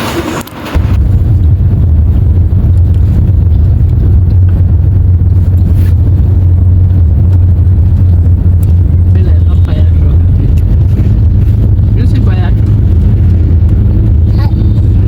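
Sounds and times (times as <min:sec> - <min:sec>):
vehicle low rumble: 0:00.0 - 0:15.0.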